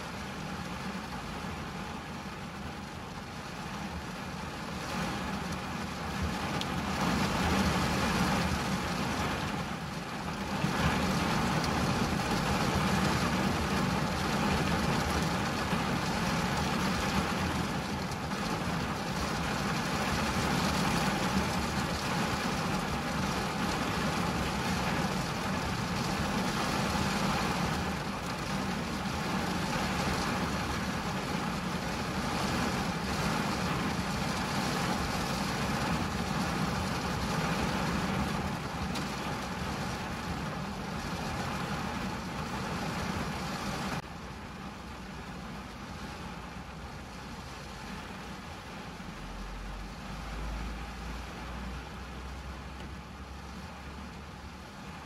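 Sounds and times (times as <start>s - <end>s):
rain on a car roof: 0.0s - 55.0s.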